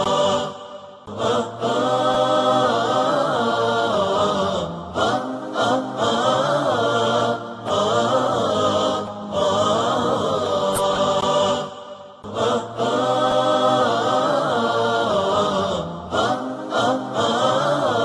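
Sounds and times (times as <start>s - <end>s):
wordless vocal chorus singing: 0.0s - 18.0s.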